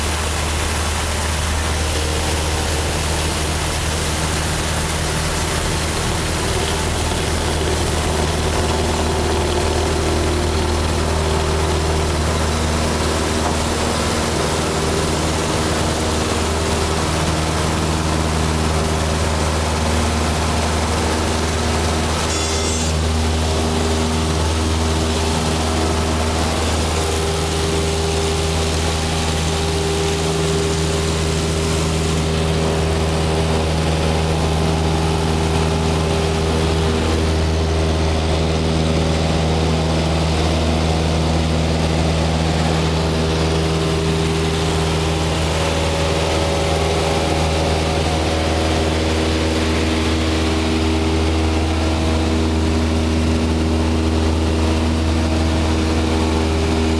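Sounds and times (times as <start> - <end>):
airplane engine drone in cabin: 0.0 - 56.9.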